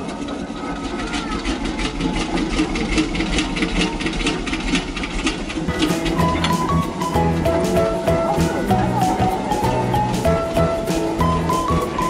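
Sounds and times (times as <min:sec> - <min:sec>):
low machine rumble: 0:00.0 - 0:12.0
machine rhythmic clatter: 0:00.0 - 0:12.0.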